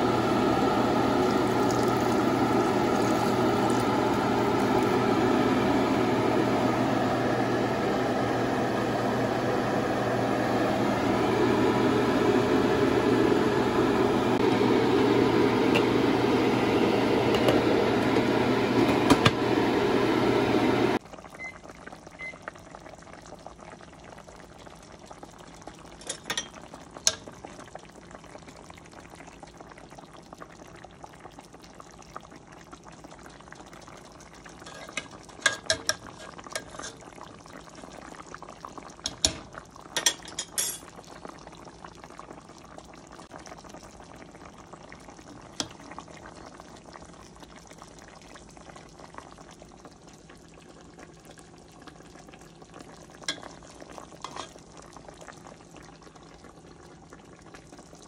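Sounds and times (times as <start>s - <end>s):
stew bubbling in a pot: 0.0s - 58.0s.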